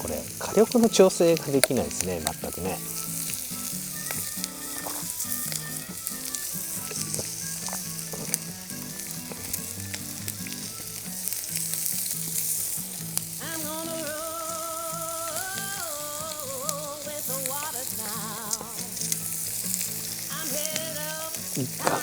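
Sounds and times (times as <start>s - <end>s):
chicken sizzling on a griddle: 0.0s - 22.0s.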